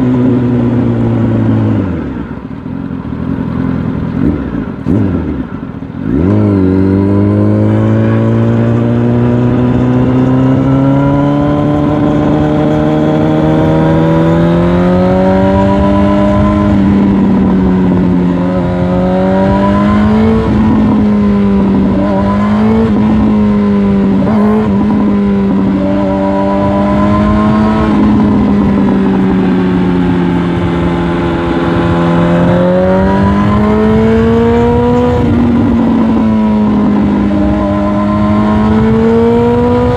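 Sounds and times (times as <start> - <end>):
motorcycle engine revving: 0.0 - 39.9
wind rush: 6.3 - 39.9.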